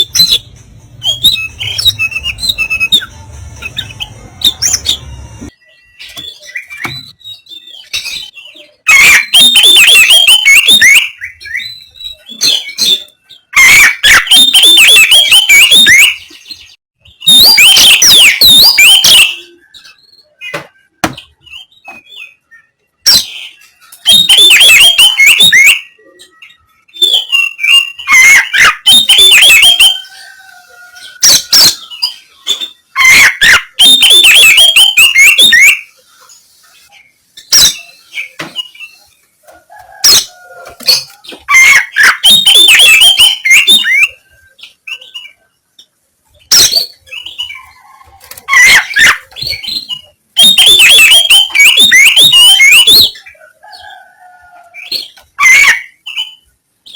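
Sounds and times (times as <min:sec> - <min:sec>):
bird chattering song: 0:00.0 - 0:39.2, 0:40.1 - 0:53.9, 0:54.7 - 0:56.9.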